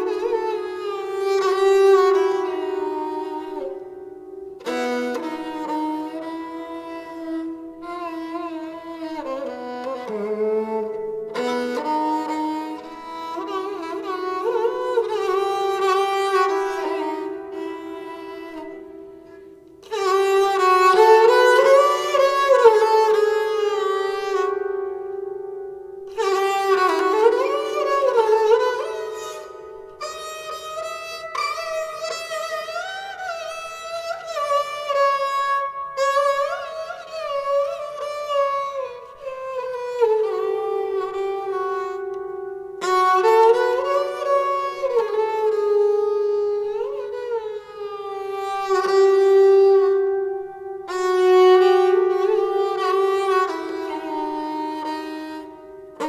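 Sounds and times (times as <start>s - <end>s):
bowed sarangi melody: 0.0s - 56.0s.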